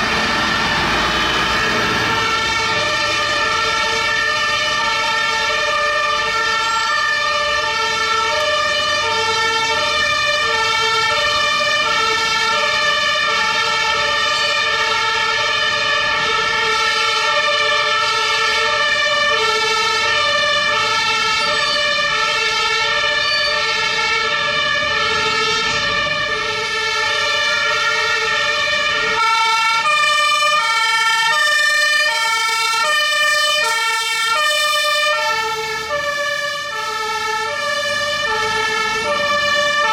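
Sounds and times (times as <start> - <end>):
fire engine two-tone sirens: 0.0 - 39.9.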